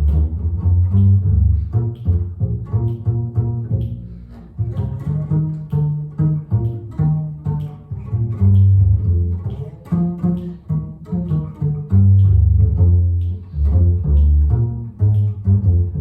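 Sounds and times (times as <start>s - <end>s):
double bass played pizzicato: 0.0s - 16.0s.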